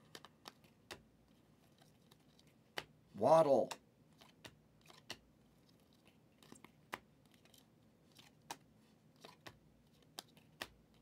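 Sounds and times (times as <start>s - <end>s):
trading cards clicking and snapping: 0.0s - 3.0s, 3.7s - 11.0s.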